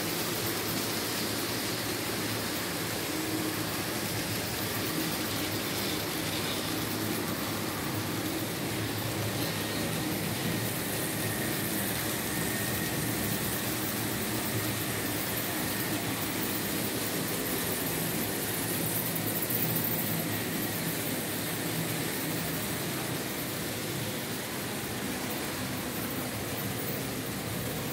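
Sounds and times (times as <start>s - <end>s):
model train motor whirring: 0.0s - 24.0s
coaches rolling on metal track: 0.0s - 27.9s.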